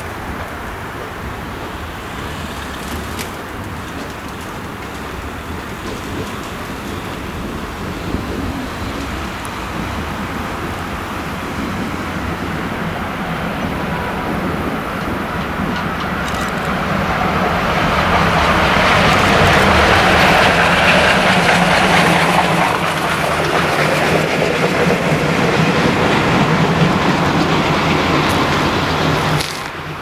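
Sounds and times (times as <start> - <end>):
steam locomotive train rolling past: 0.0 - 30.0.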